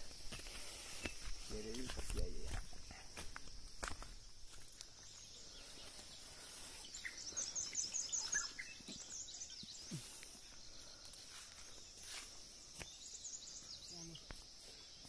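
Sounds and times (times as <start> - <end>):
insects droning: 0.0 - 15.0
small birds chirping: 0.0 - 15.0.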